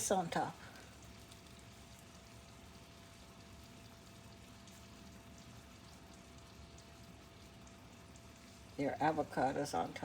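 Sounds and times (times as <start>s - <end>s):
thin constant hum: 0.0s - 10.0s.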